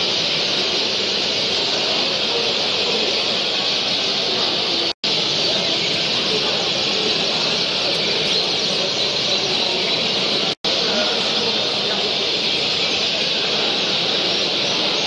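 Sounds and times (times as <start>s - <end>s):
canaries singing and chirping: 0.0s - 15.0s.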